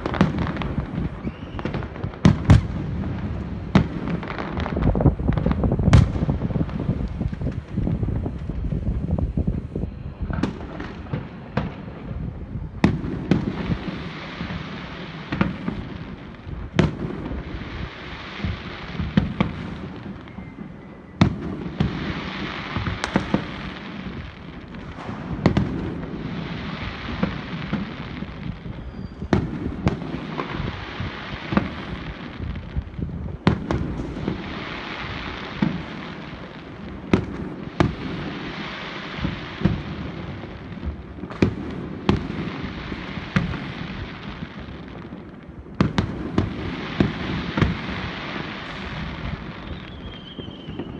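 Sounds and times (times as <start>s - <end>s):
firework crackling: 0.0s - 50.9s.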